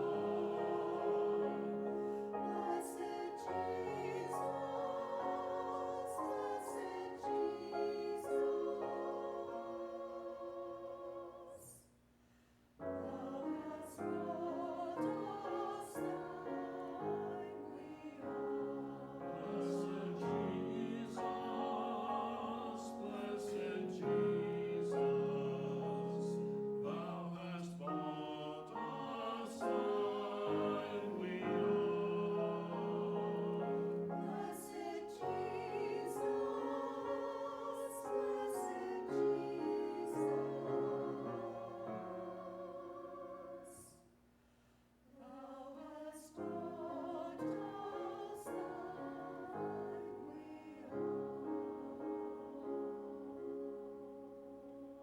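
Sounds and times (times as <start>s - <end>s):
church choir singing: 0.0s - 11.8s, 12.8s - 44.0s, 45.2s - 55.0s.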